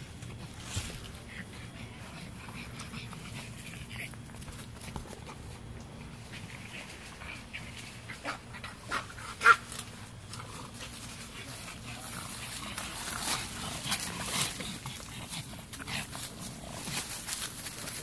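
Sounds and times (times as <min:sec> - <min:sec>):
dog breathing and snuffling: 0:00.0 - 0:09.5, 0:10.2 - 0:18.0
leaves rustling: 0:00.0 - 0:18.0.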